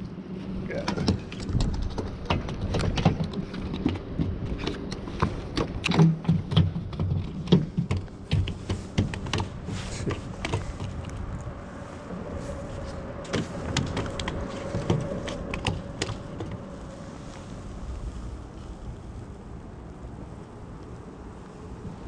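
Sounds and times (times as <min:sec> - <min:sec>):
footsteps on floating dock: 0:00.8 - 0:20.4.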